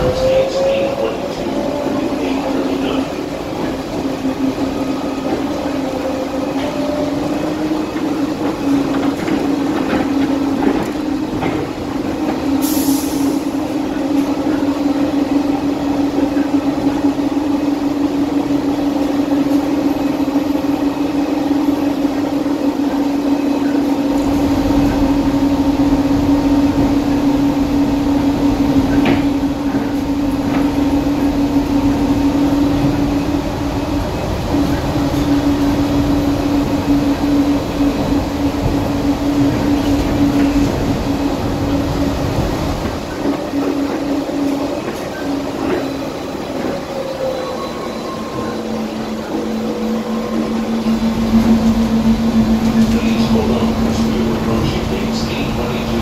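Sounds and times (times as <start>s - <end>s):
rumble of train car running: 0.0s - 56.0s.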